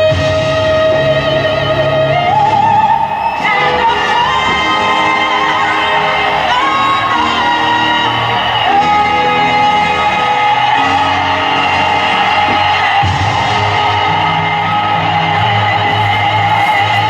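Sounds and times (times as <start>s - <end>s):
steady musical accompaniment: 0.0s - 17.0s.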